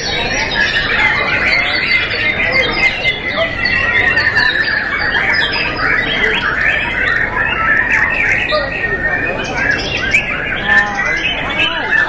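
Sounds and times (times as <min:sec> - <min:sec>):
high continuous bird trill: 0:00.0 - 0:12.0
many birds singing: 0:00.0 - 0:12.0.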